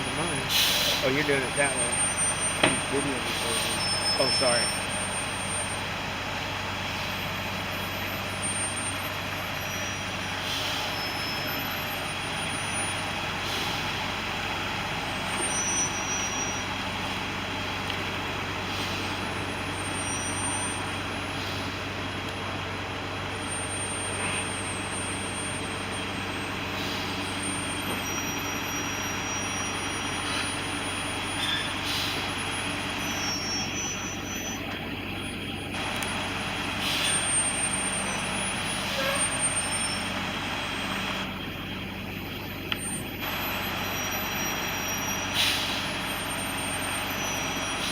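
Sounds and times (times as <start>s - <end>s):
excavator diesel engine droning: 0.0s - 47.9s.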